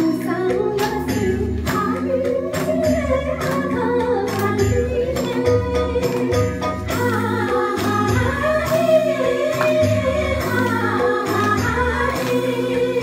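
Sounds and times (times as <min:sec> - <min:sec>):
backing track with steady beat: 0:00.0 - 0:13.0
women singing: 0:00.0 - 0:13.0.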